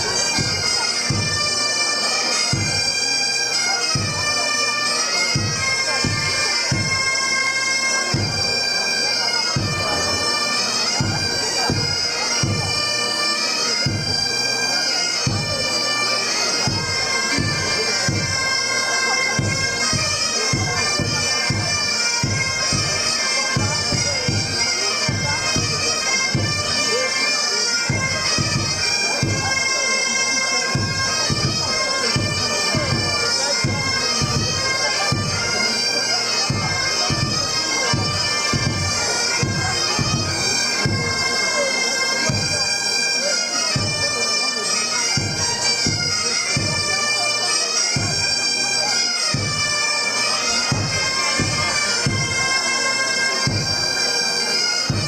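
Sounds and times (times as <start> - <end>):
bombardes and bagpipes melody: 0.0 - 55.0.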